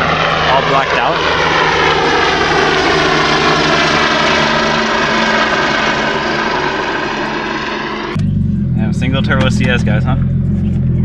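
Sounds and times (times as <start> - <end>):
helicopter flying close by: 0.0 - 11.0.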